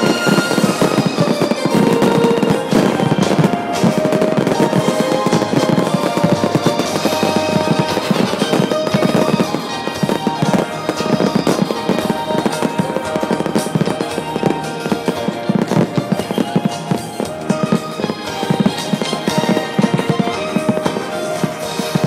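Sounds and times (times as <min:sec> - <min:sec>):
fireworks crackling and popping: 0:00.0 - 0:22.0
music playing: 0:00.0 - 0:22.0.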